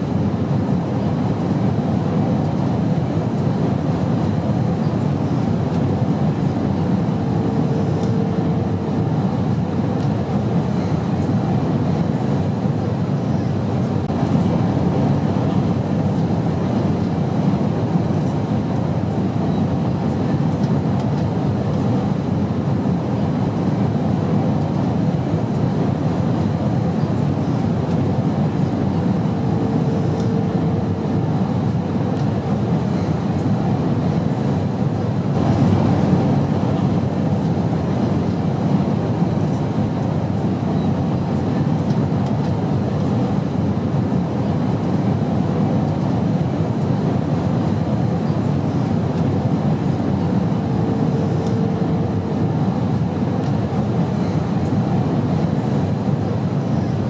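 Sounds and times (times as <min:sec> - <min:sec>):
airplane drone in flight: 0:00.0 - 0:57.0.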